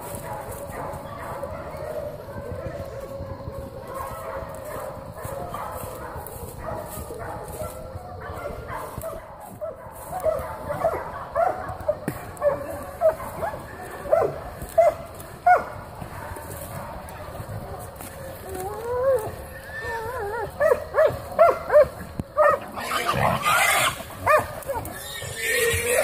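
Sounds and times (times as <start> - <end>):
dogs barking: 0.0 - 26.0.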